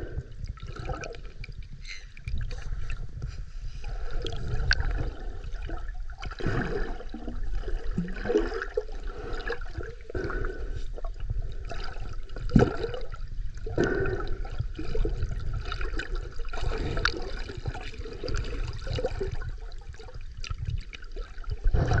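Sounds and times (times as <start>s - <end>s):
seawater sloshing and gurgling: 0.0s - 22.0s
water splashes: 3.9s - 22.0s.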